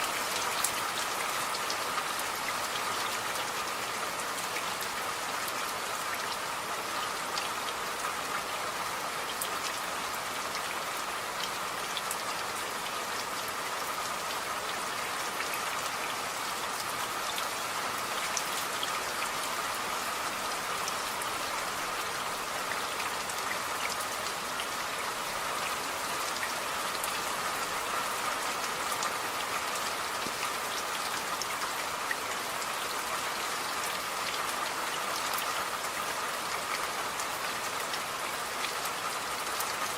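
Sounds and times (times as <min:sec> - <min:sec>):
steady rain with ticking drops: 0:00.0 - 0:39.9.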